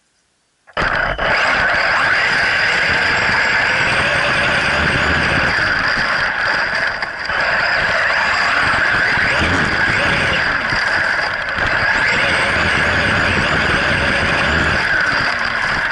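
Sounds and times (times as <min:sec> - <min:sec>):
remote-control truck motor whine: 0:00.7 - 0:15.9.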